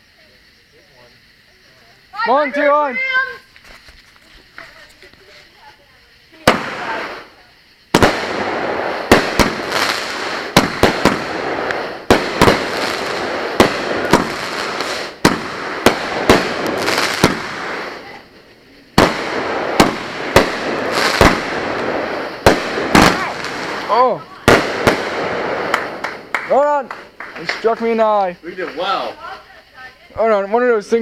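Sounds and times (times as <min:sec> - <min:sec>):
firework hissing: 0:00.0 - 0:31.0
firework bangs: 0:04.3 - 0:30.1.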